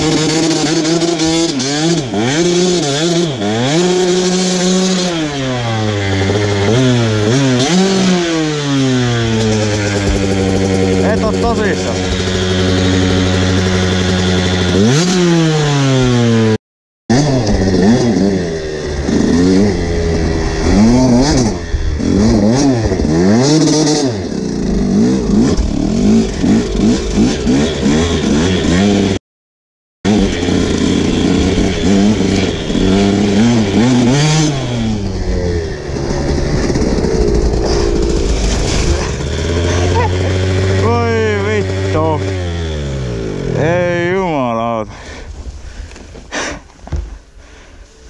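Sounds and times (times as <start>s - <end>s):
dirt bike engine revving: 0.0s - 29.2s, 30.0s - 47.0s.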